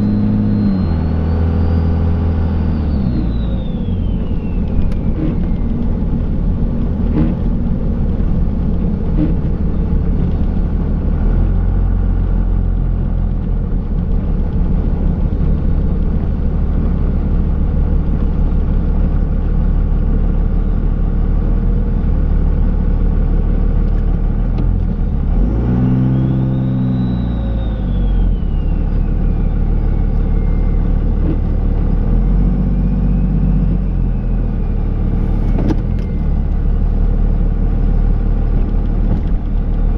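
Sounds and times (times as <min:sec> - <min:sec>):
diesel engine running: 0:00.0 - 0:39.9
turbo whine: 0:00.0 - 0:39.9.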